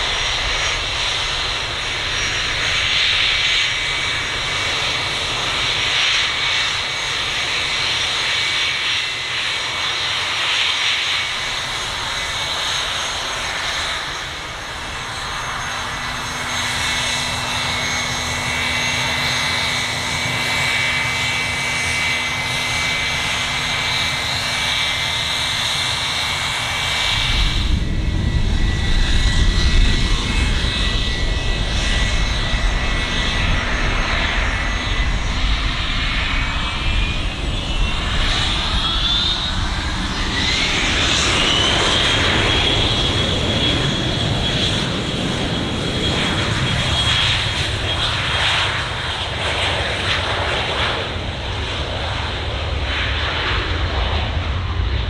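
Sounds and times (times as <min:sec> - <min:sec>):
jet engines deep rumble: 0:00.0 - 0:55.0
jet engines whining: 0:00.0 - 0:55.0.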